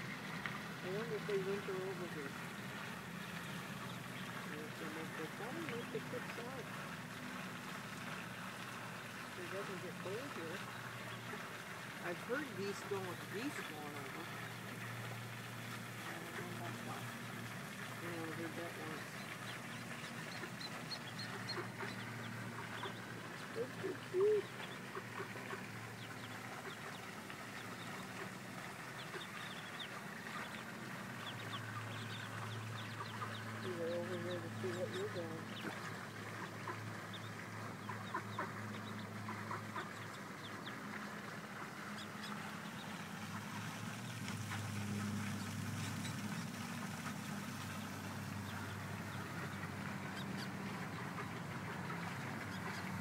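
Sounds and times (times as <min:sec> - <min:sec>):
ducklings peeping: 0:00.2 - 0:53.0.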